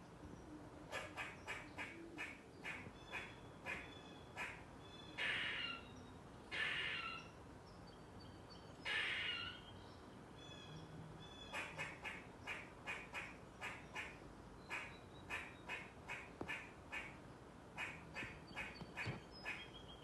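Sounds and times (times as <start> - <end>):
squirrel alarm calls: 0.9 - 7.4, 8.8 - 9.8, 10.4 - 17.2, 17.8 - 20.0.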